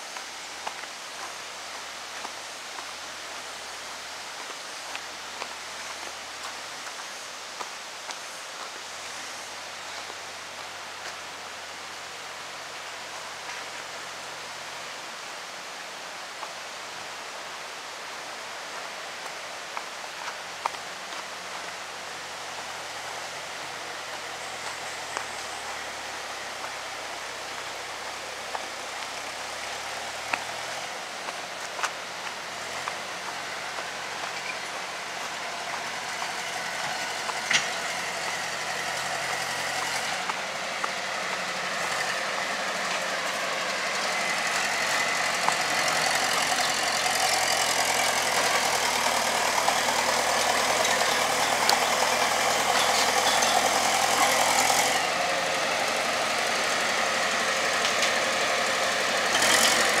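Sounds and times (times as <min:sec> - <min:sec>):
construction machinery engine running: 0:00.0 - 1:00.0.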